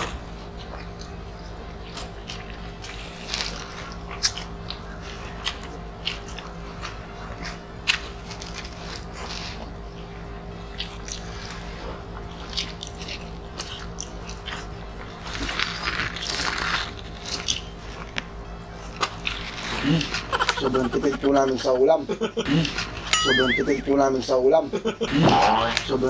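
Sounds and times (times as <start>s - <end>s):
chewing and mouth noises: 0.0s - 21.7s.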